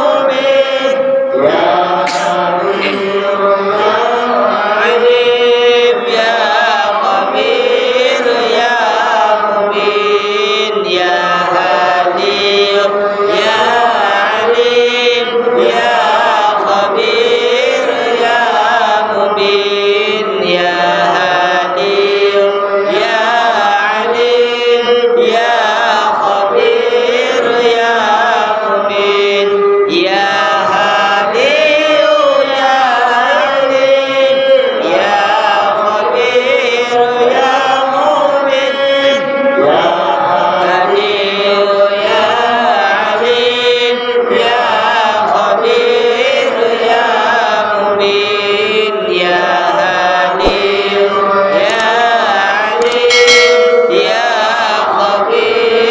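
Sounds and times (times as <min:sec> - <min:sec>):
prayers chanted melodically: 0:00.0 - 0:55.9.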